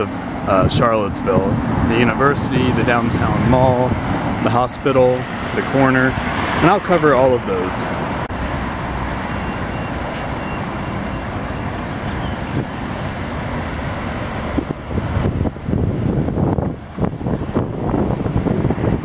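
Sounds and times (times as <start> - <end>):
wind buffeting microphone: 0.0 - 8.5, 10.0 - 19.0
bus passing close: 0.0 - 19.0
road traffic: 0.0 - 19.0.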